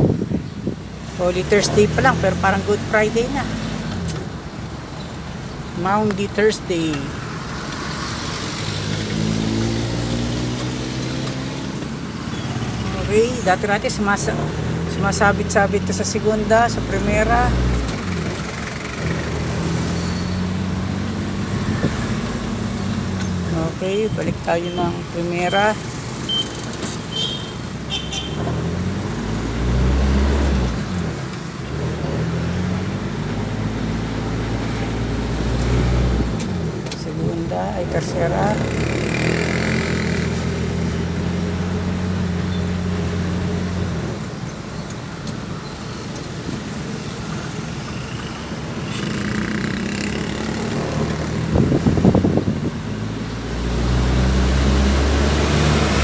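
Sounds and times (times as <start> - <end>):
van engine hum: 0.0 - 27.0, 27.6 - 56.0
road noise: 0.0 - 56.0.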